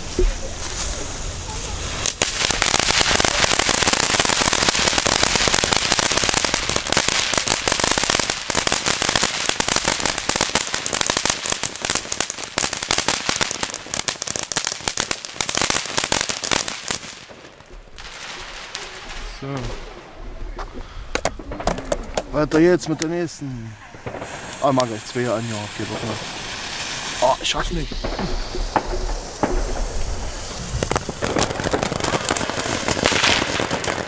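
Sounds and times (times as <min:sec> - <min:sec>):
firework fountain hissing and crackling: 0:00.0 - 0:34.0.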